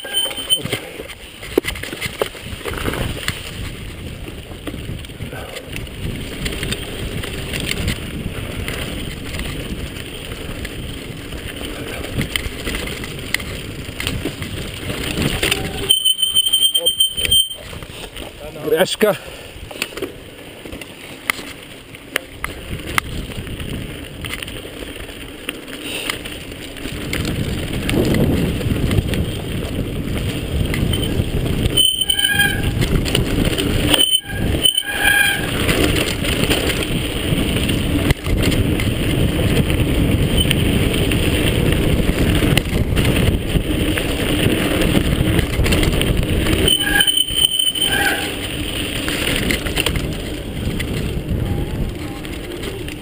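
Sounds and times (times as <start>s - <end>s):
wind noise: 0.0s - 18.6s, 22.2s - 53.0s
bike rattling: 0.0s - 53.0s
bike tyres crunching over stones: 0.0s - 53.0s.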